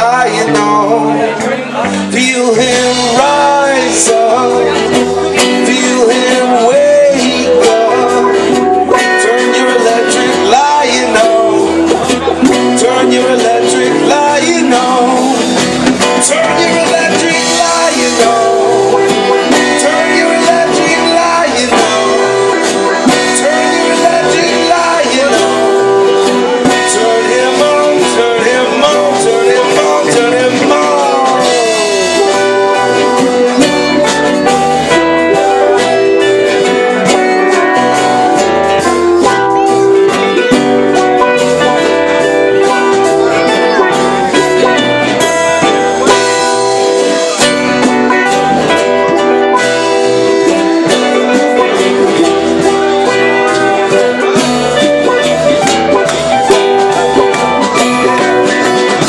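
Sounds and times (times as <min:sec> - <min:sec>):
electric guitar lead with bent notes: 0:00.0 - 0:59.0
steady drums: 0:00.0 - 0:59.0.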